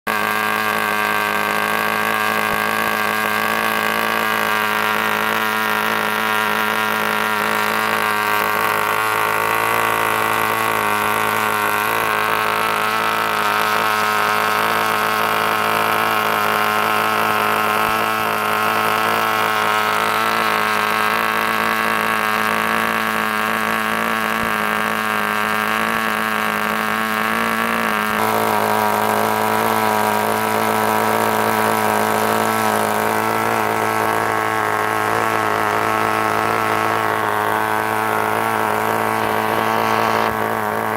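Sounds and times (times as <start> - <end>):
model glow engine running: 0.1 - 40.9.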